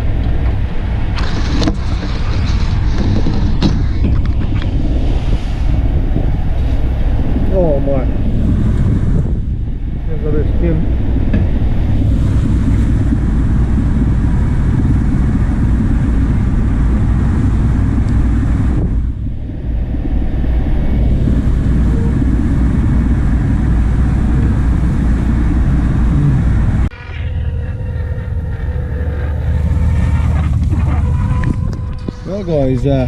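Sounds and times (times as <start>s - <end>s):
boat engine rumbling: 0.0s - 33.0s.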